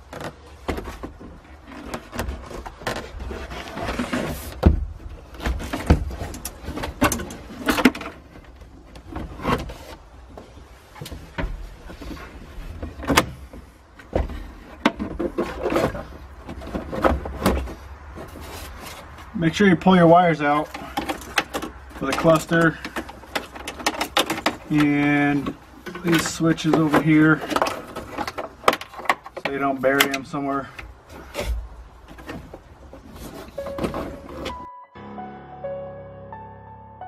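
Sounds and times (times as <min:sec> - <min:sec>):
plastic knocking and scraping: 0:00.0 - 0:19.3, 0:20.6 - 0:30.2, 0:30.8 - 0:34.6.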